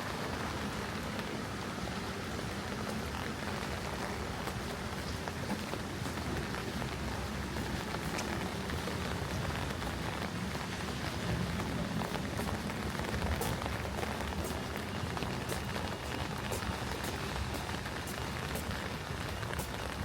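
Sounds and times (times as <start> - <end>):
raindrops ticking close by: 0.0 - 20.0
steady rain falling: 0.0 - 20.0.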